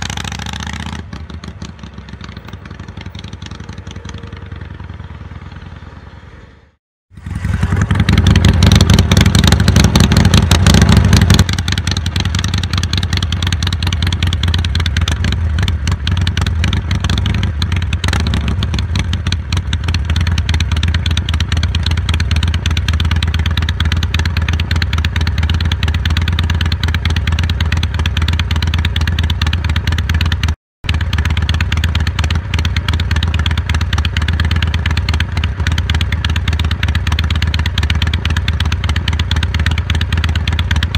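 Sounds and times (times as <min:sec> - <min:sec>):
motorcycle engine starting and idling: 0:00.0 - 0:40.9.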